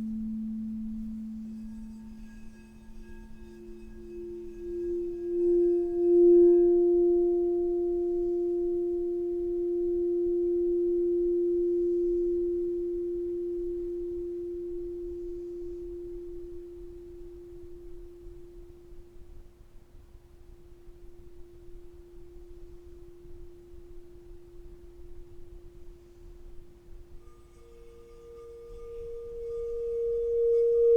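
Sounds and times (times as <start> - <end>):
singing bowl ringing: 0.0 - 19.0, 21.6 - 30.9
lower singing bowl tone: 0.0 - 30.9.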